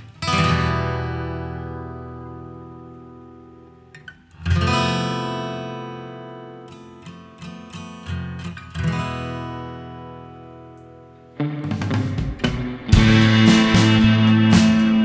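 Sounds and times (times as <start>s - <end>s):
acoustic guitar strumming: 0.0s - 15.0s
picked guitar notes: 0.0s - 15.0s.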